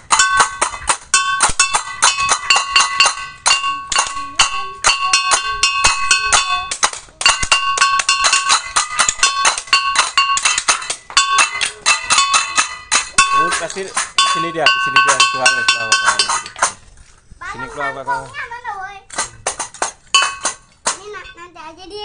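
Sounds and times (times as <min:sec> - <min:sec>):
small cymbals clattering: 0:00.0 - 0:16.8, 0:19.2 - 0:21.5.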